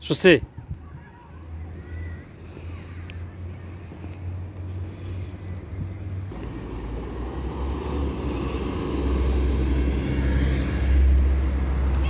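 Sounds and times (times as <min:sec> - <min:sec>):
car passing by: 0:01.3 - 0:12.0.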